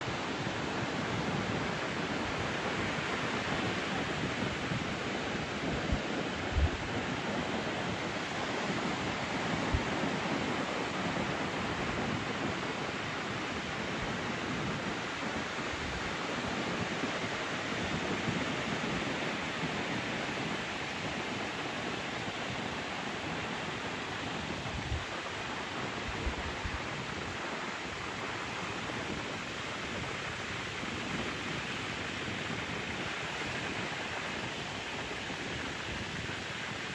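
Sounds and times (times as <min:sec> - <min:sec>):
surf breaking on a beach: 0:00.0 - 0:36.9.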